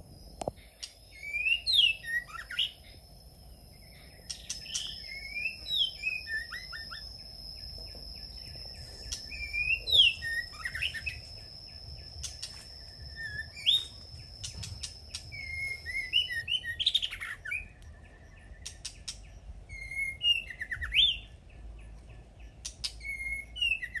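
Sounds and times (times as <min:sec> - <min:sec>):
thin high tone: 0:00.0 - 0:21.0
small songbirds chirping: 0:00.0 - 0:24.0.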